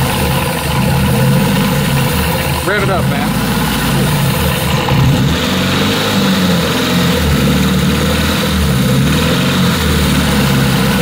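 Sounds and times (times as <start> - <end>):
car engine revving: 0.0 - 11.0
engine rattle: 0.0 - 11.0.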